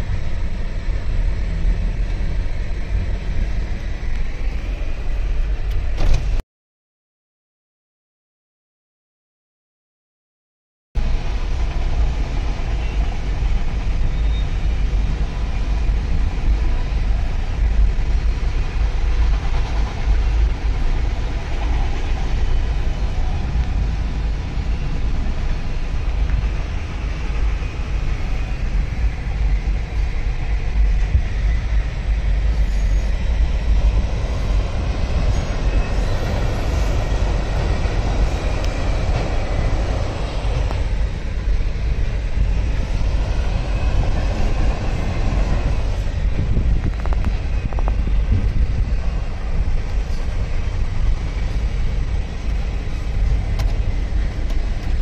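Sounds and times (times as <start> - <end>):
freight train rumbling past: 0.0 - 6.4, 11.0 - 55.0.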